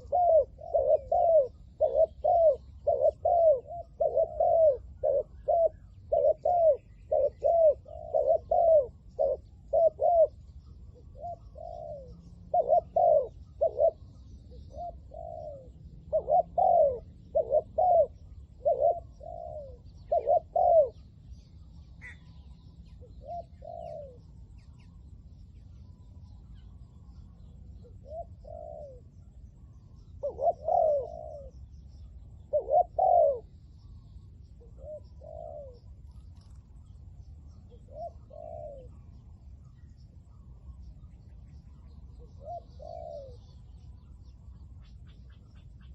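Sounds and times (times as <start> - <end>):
doves cooing: 0.0 - 25.2, 25.9 - 45.9.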